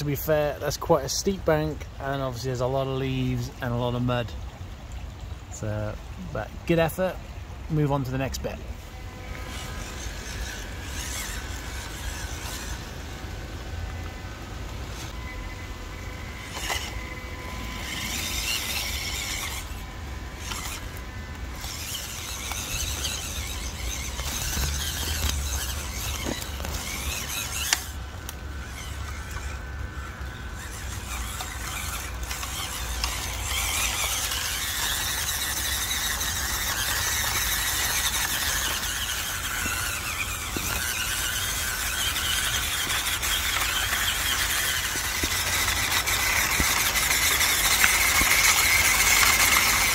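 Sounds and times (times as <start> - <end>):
toy car motor whining: 8.4 - 49.9.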